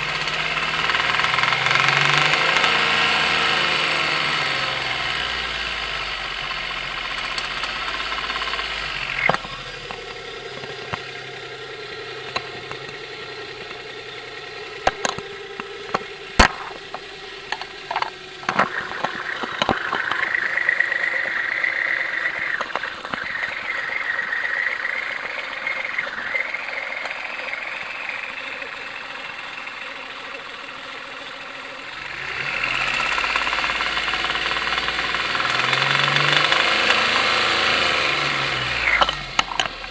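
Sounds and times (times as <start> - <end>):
car engine knocking: 0.0 - 39.9.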